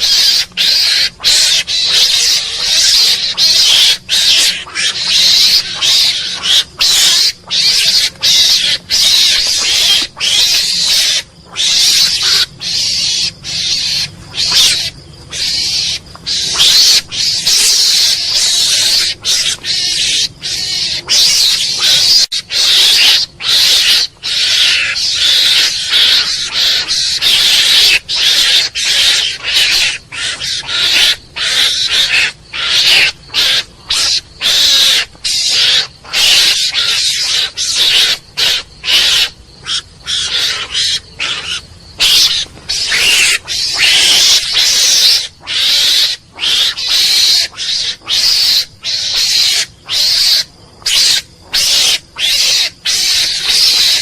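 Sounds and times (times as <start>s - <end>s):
mongoose calling: 0.0s - 54.0s.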